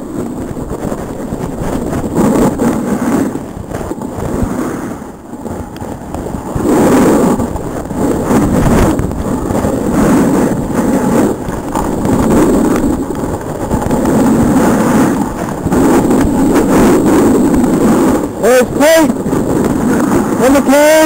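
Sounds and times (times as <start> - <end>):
wind buffeting microphone: 0.0 - 21.0
ski edges scraping snow: 0.8 - 5.1, 6.5 - 21.0.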